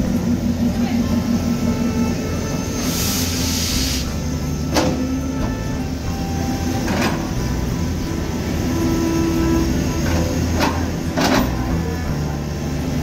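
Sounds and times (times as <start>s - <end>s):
excavator diesel engine running: 0.0s - 13.0s
high engine whine: 0.0s - 13.0s.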